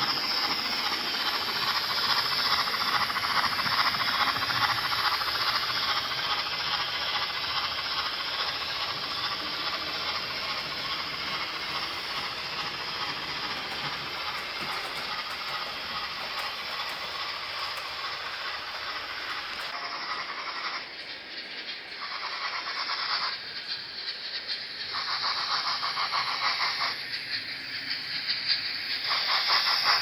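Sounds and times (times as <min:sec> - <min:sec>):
model steam locomotive sound: 0:00.0 - 0:30.0.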